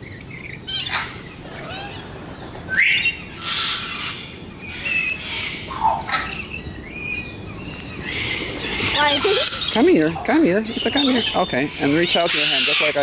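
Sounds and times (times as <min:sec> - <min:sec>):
parrots squawking and chirping: 0:00.0 - 0:13.0.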